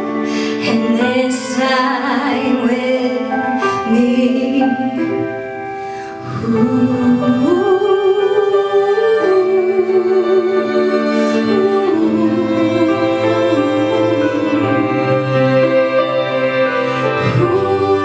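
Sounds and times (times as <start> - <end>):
piano: 0.0 - 18.0
string quartet playing: 0.0 - 18.0.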